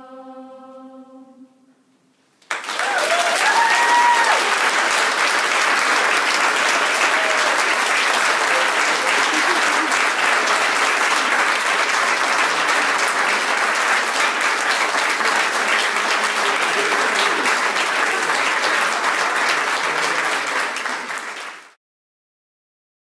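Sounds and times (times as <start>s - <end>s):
audience applauding: 2.4s - 21.8s.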